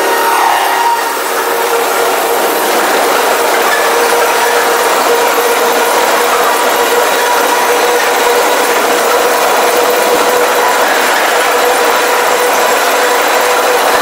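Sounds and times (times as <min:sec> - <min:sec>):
train wheels rumbling and rattling: 0:00.0 - 0:14.0.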